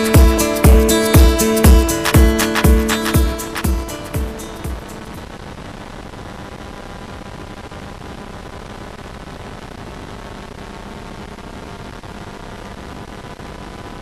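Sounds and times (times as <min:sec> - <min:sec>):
recording hiss: 0:00.0 - 0:14.0.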